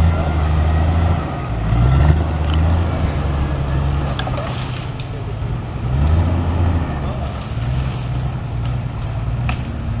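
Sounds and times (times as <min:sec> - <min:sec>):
vehicle engine rumbling and revving: 0:00.0 - 0:10.0.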